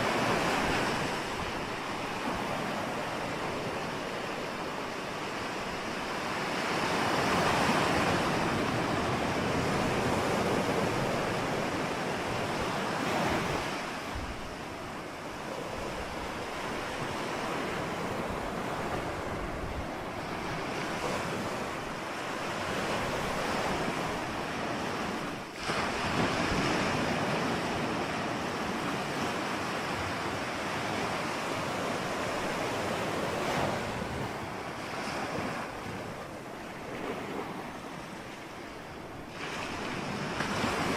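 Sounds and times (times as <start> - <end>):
waves breaking ashore: 0.0 - 40.9.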